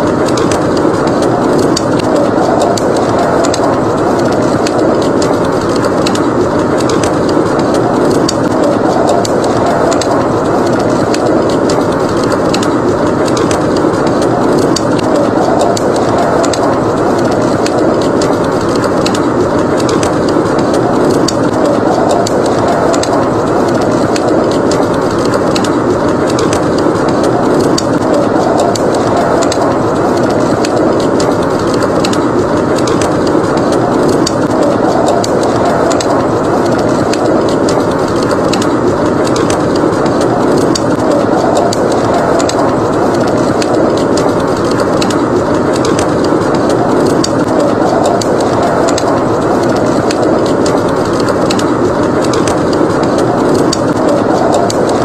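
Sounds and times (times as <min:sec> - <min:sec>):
blizzard wind roaring: 0:00.0 - 0:55.0
wood fire crackling: 0:00.0 - 0:55.0.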